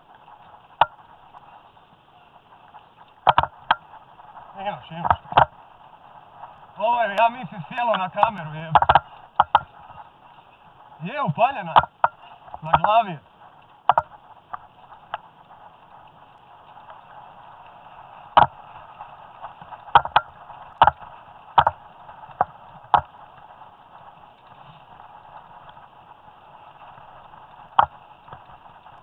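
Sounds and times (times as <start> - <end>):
bike knocking and rattling: 0.0 - 29.0
steady rushing noise: 0.0 - 29.0.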